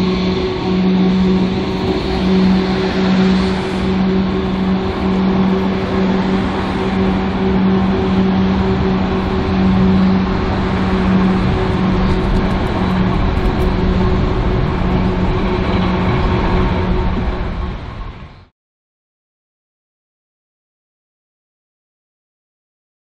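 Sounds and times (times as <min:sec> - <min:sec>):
electric tram moving: 0:00.0 - 0:18.5
low hum: 0:00.0 - 0:18.5
street traffic rumble: 0:00.0 - 0:18.5.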